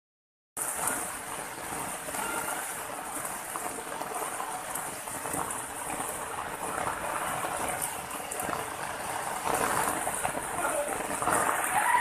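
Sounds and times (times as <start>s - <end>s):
water rushing over rocks: 0.6s - 12.0s.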